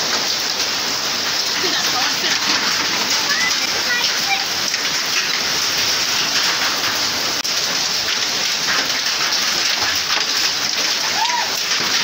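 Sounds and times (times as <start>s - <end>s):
hail and rain on grass: 0.0s - 12.0s.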